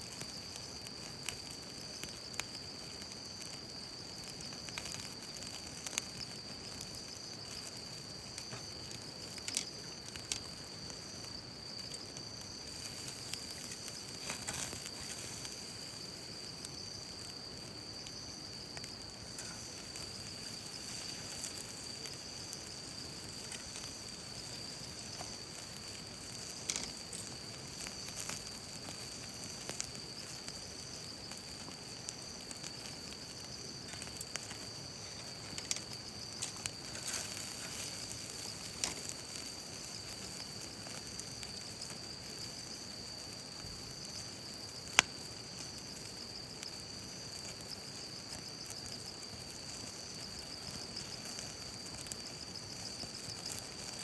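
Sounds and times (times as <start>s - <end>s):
campfire crackling and popping: 0.0s - 54.0s
insects chirring: 0.0s - 54.0s.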